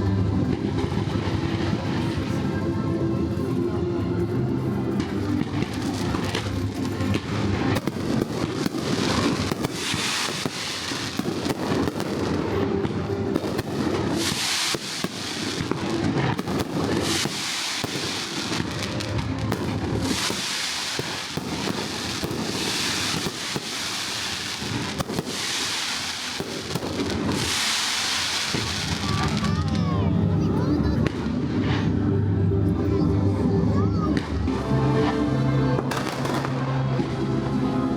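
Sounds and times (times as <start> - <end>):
fireworks bangs and crackling: 0.0 - 3.7, 4.6 - 32.5, 33.3 - 37.9
musical soundtrack: 0.0 - 37.9.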